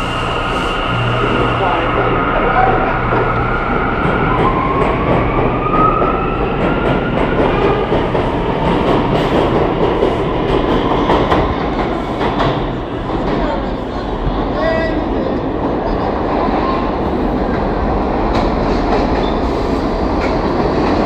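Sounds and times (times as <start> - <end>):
subway train rumbling with whine: 0.0 - 21.0.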